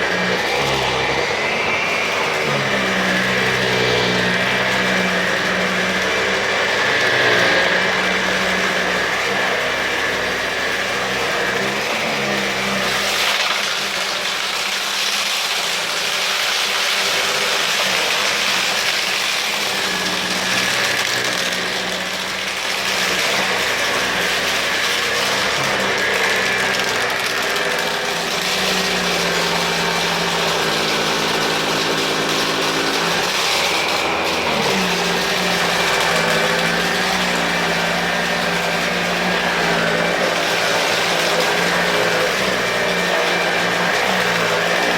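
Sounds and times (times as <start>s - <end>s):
vacuum cleaner on carpet: 0.0s - 44.9s.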